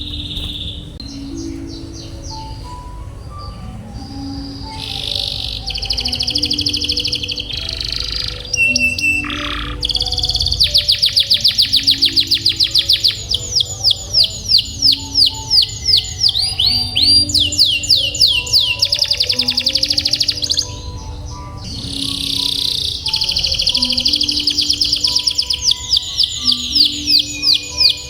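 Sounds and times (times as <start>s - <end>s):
canary singing: 0.0s - 28.0s.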